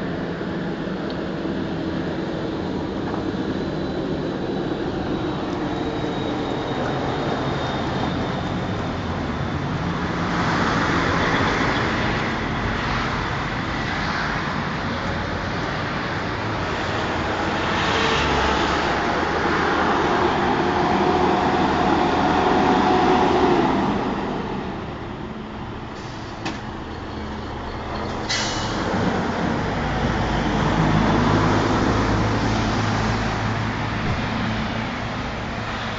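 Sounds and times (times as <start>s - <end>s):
truck diesel engines: 0.0s - 35.9s.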